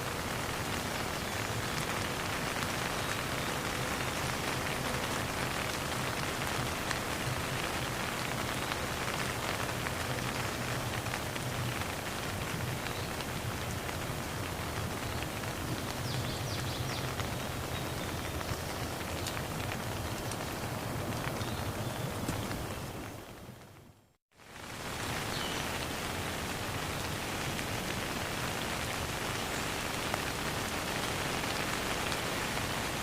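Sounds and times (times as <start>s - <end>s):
raindrops ticking on a surface: 0.0s - 33.0s.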